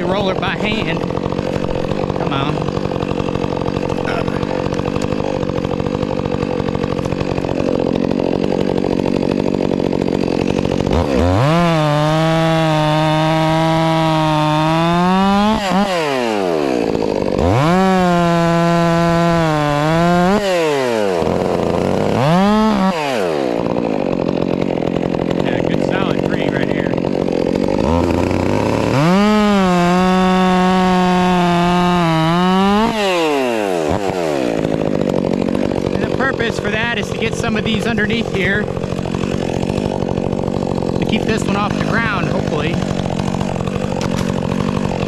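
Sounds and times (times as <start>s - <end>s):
chainsaw idling and revving: 0.0s - 45.0s.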